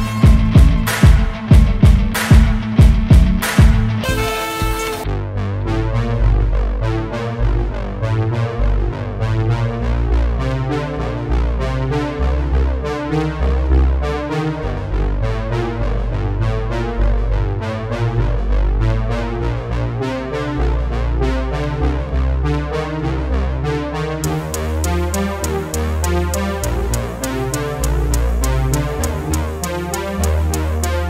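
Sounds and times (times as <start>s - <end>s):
low bass line: 0.0s - 31.0s
synthesizer keyboard repeated notes: 0.0s - 31.0s.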